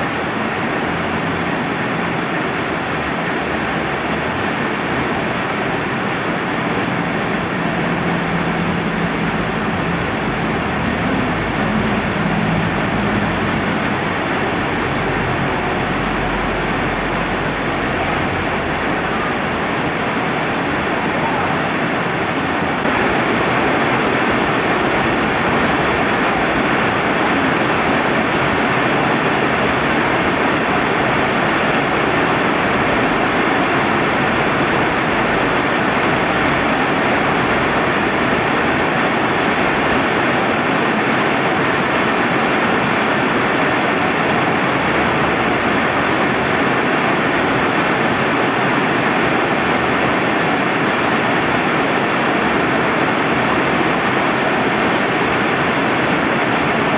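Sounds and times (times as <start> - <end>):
heavy rain: 0.0 - 56.9
river rushing: 0.0 - 56.9.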